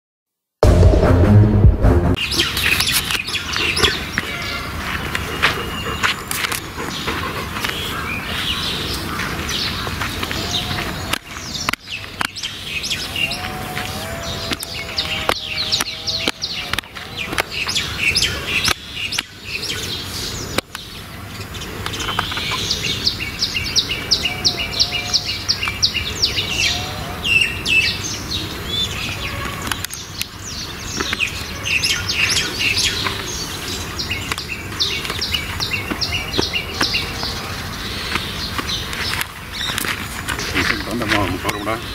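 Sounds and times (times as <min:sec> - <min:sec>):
birds chirping: 0:02.2 - 0:41.9.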